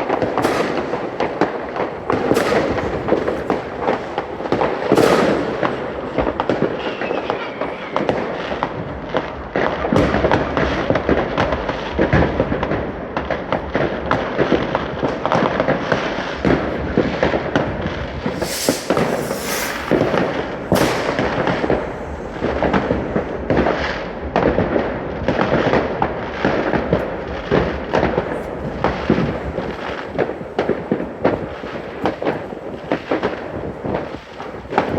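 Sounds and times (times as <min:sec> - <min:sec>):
fireworks banging and crackling: 0:00.0 - 0:34.9
high hissing fireworks bursts: 0:00.0 - 0:34.9.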